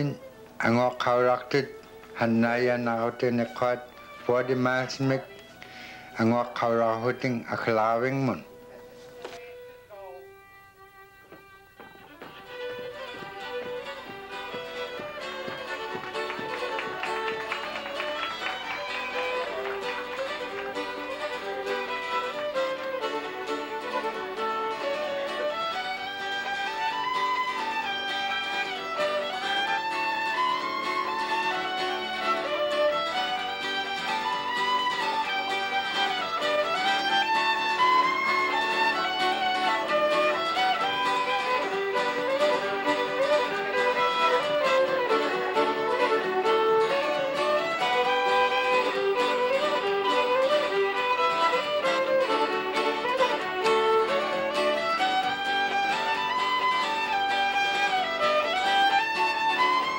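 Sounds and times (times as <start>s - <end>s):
fiddle playing a melody: 0.0s - 59.9s.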